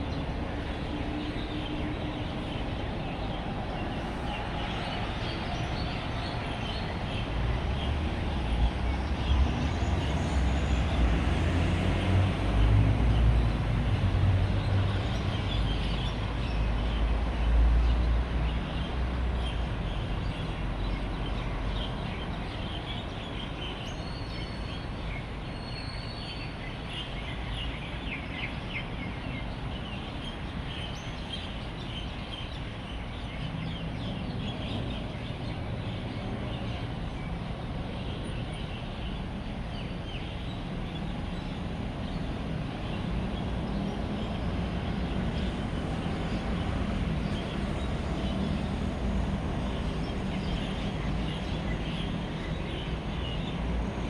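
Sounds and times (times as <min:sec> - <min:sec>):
road traffic rumble: 0:00.0 - 0:24.0, 0:26.8 - 0:54.0
many birds chirping: 0:00.1 - 0:18.0, 0:18.7 - 0:54.0.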